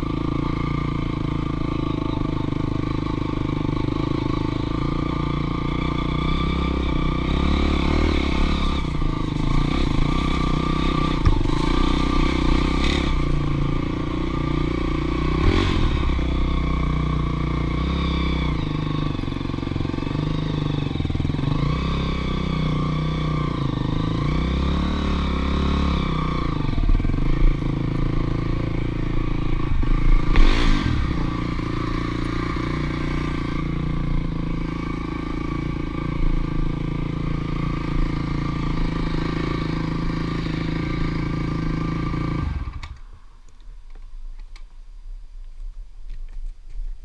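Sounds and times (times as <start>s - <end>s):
engine revving: 0.0s - 43.1s
dirt bike engine running: 0.0s - 43.4s.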